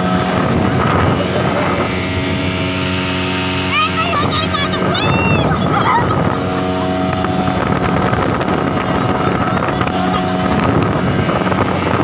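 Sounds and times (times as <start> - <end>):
outboard motor running: 0.0 - 12.0
water rushing: 0.0 - 12.0
wind: 0.0 - 12.0.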